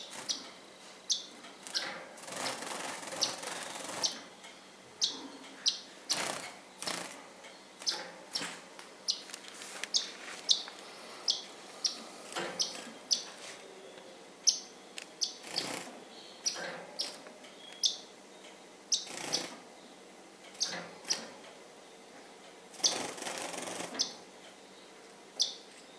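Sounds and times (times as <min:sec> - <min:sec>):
bird chirping: 0:00.0 - 0:02.0, 0:03.0 - 0:09.3, 0:09.9 - 0:20.0, 0:20.6 - 0:22.1, 0:22.8 - 0:23.1, 0:23.9 - 0:25.9.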